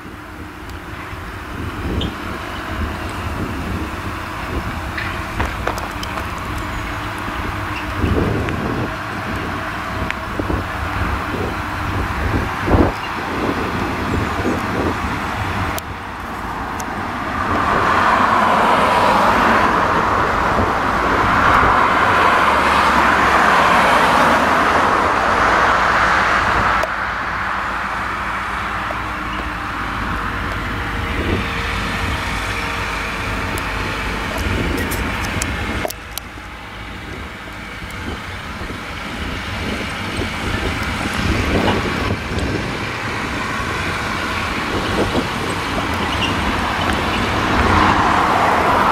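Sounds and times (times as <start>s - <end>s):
farm machinery engine noise: 0.0s - 48.9s
tractor diesel engine: 0.0s - 48.9s
loud rushing noise: 7.2s - 35.9s, 38.0s - 48.9s.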